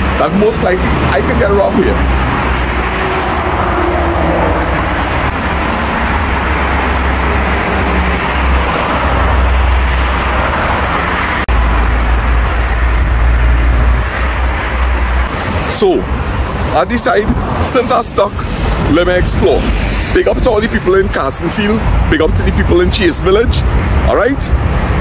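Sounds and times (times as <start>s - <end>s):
road traffic rushing past: 0.0s - 25.0s.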